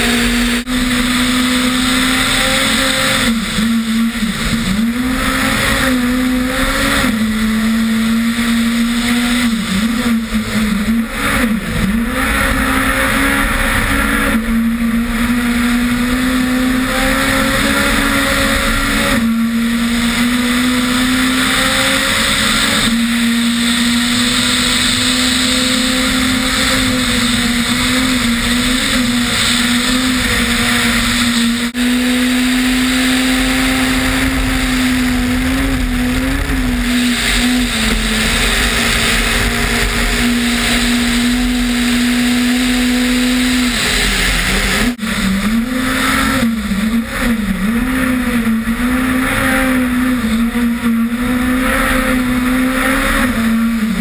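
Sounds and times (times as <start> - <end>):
wind rush: 0.0 - 50.3
rally car engine at high revs: 0.0 - 54.0
tyres on snowy road: 0.0 - 54.0.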